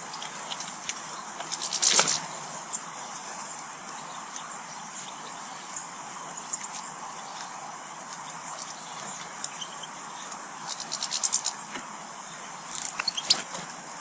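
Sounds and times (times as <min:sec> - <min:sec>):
outdoor ambient hiss: 0:00.0 - 0:14.0.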